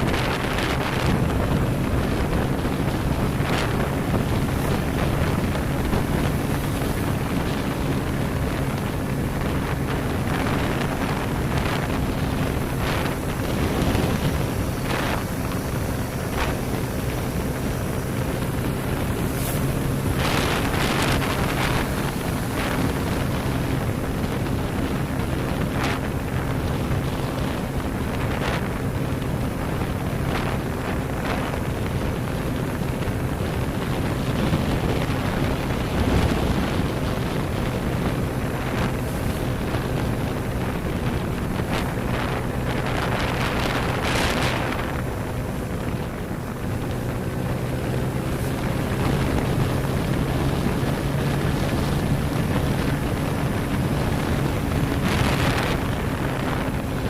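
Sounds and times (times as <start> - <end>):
motorcycle engine cruising: 0.0 - 57.0
wind on microphone: 0.0 - 57.0.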